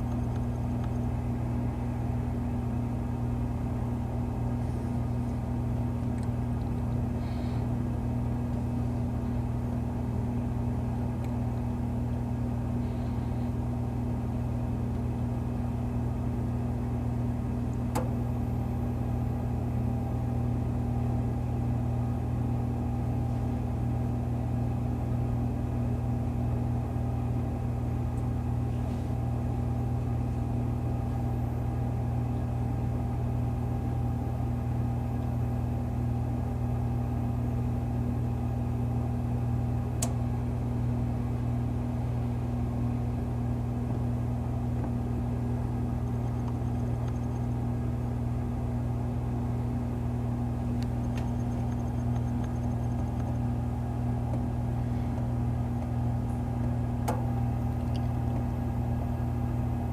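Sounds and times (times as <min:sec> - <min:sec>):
toaster oven electrical hum: 0:00.0 - 0:59.9.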